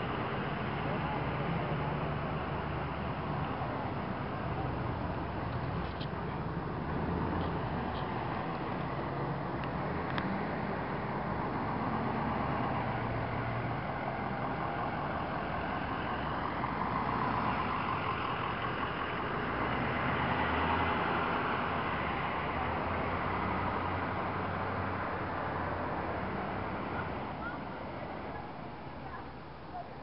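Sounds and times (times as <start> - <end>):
fire truck engines running: 0.0 - 30.0.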